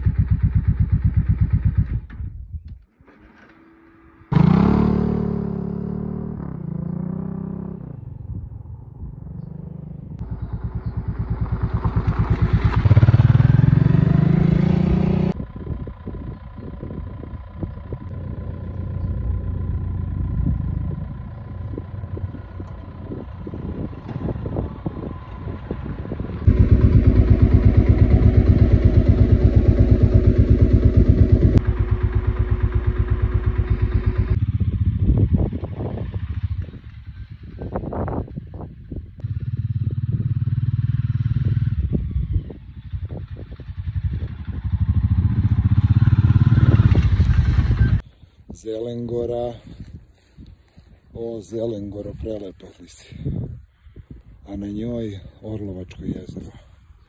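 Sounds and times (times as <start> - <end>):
motorcycle engine revving: 0.0 - 2.3, 3.1 - 48.2.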